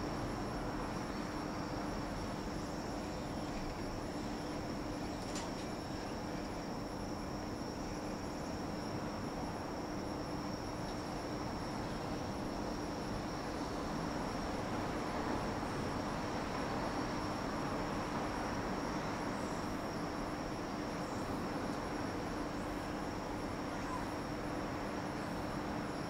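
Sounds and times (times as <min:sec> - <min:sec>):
faint steady hum: 0:00.0 - 0:26.0
high-pitched insect trill: 0:00.0 - 0:26.0.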